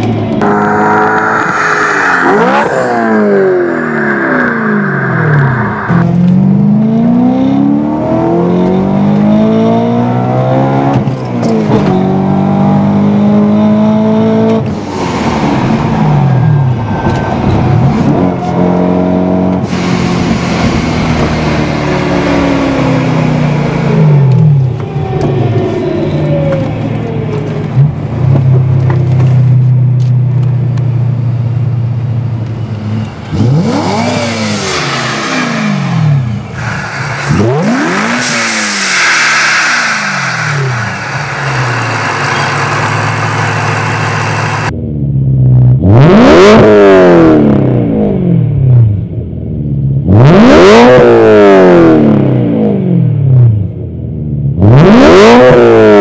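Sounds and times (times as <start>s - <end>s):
car engine revving: 0.0s - 29.4s, 32.7s - 45.0s, 45.8s - 49.2s, 50.0s - 53.8s, 54.5s - 56.0s.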